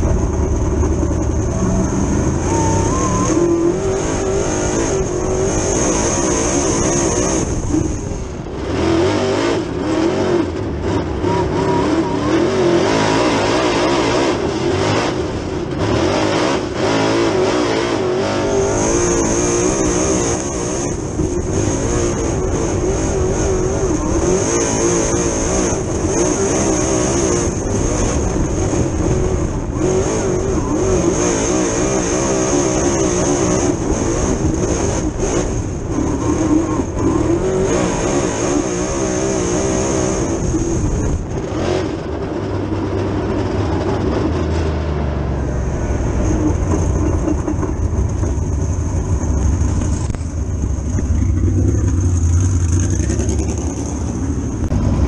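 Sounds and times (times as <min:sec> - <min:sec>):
steady high whine: 0:00.0 - 0:44.4
race car engine revving: 0:00.0 - 0:55.0.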